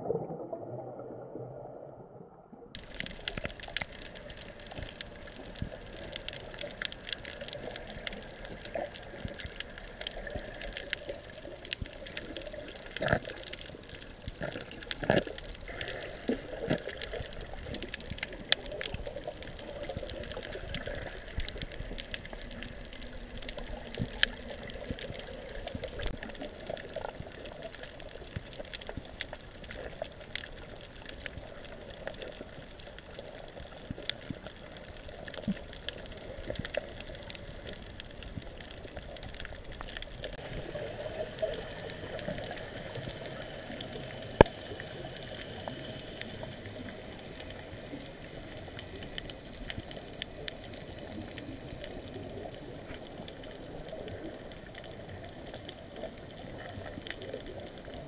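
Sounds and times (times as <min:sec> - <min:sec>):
muffled underwater water sound: 0:00.0 - 0:58.0
crackling clicks: 0:02.5 - 0:58.0.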